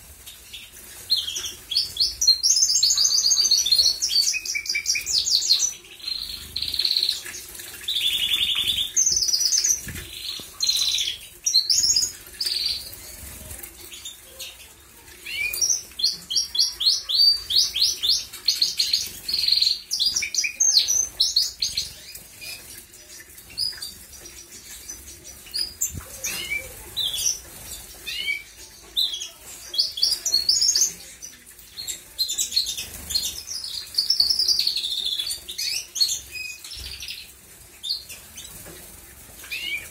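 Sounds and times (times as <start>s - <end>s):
birds splashing in water: 0.0s - 39.9s
canaries singing: 0.0s - 39.9s.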